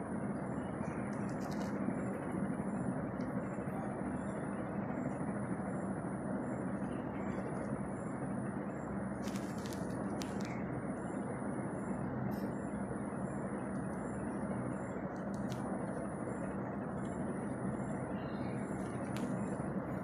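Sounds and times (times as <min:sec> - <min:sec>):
faint hum: 0:00.0 - 0:20.0
low mechanical rumble: 0:00.0 - 0:20.0.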